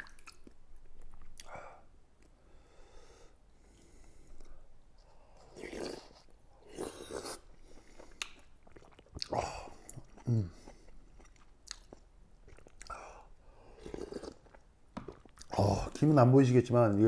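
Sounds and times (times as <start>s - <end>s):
person chewing food: 0.0s - 1.6s, 3.6s - 16.0s.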